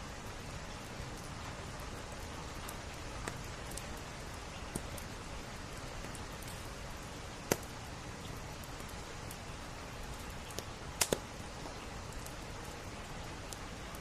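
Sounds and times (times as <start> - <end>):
rain on window glass: 0.0 - 14.0
wood fire crackling and popping: 0.0 - 14.0.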